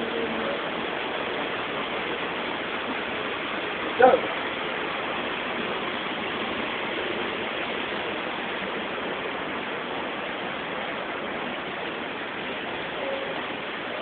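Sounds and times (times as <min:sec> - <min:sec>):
waterfall crashing into pool: 0:00.0 - 0:14.0.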